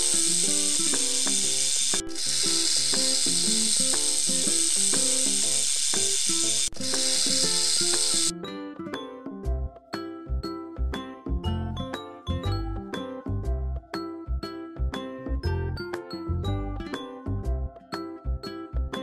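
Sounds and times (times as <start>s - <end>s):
light background music: 0.0s - 19.0s.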